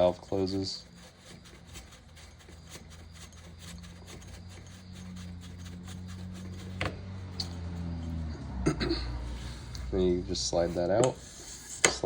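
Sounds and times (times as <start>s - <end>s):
metal threads rubbing: 0.0s - 8.3s, 9.1s - 12.0s.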